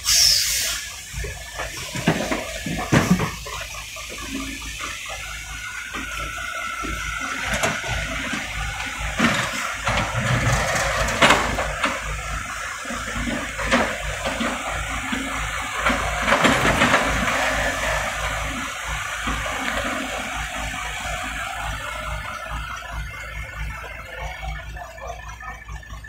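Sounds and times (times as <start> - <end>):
excavator diesel engine: 0.0 - 26.0
bucket scraping asphalt: 0.2 - 22.3.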